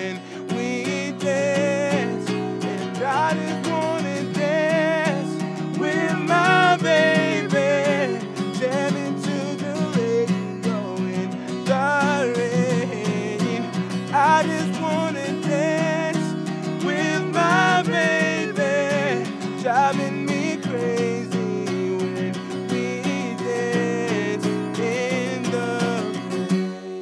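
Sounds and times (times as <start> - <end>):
acoustic guitar strumming: 0.0 - 27.0
man singing: 0.0 - 27.0.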